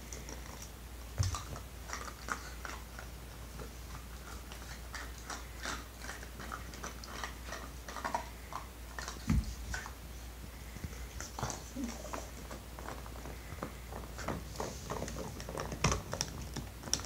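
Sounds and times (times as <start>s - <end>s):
puppies chewing toy bone: 0.0s - 17.0s
steady low hum: 0.0s - 17.0s.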